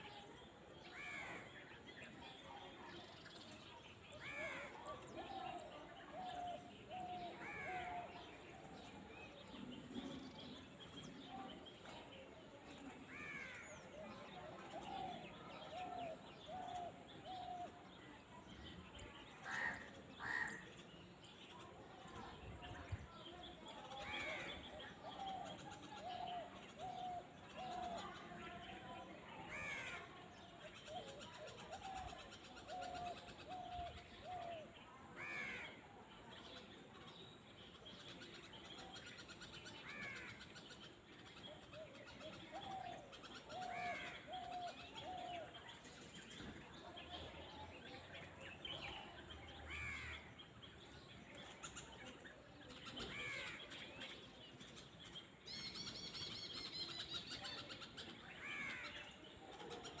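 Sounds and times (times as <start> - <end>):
faint background noise: 0.0 - 60.0.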